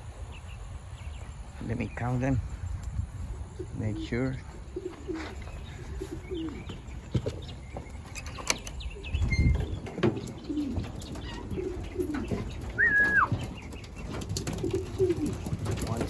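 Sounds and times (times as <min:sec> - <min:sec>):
pigeons cooing: 0:03.1 - 0:16.0.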